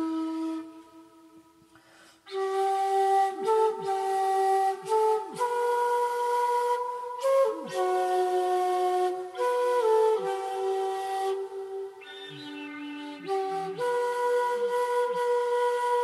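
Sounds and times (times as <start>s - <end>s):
solo flute melody: 0.0s - 16.0s.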